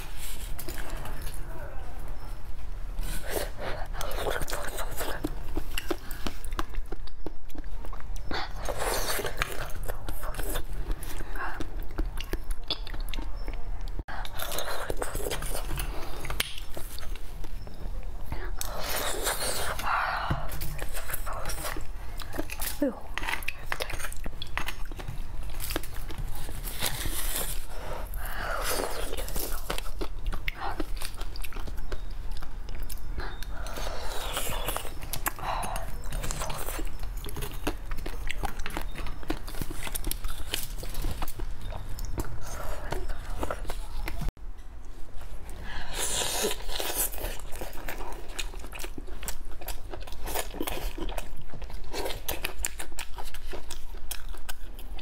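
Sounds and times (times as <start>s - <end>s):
wet chewing and mouth sounds: 0.0s - 55.0s.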